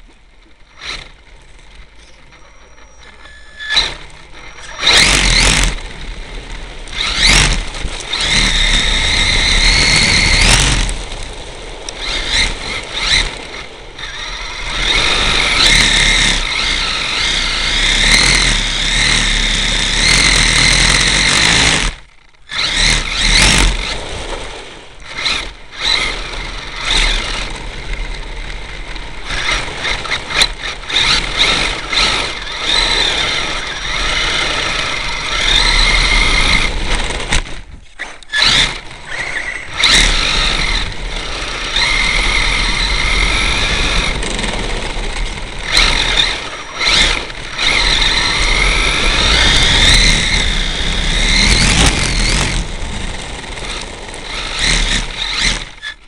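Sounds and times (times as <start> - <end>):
electric motor and gears whining: 0.0 - 56.0
tyres on dirt: 0.0 - 56.0
wheel hub rattling: 0.0 - 56.0.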